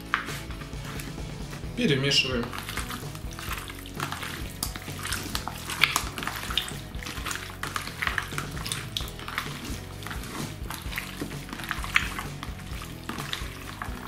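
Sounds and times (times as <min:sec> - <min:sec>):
hands squelching meat in marinade: 0:00.0 - 0:14.0.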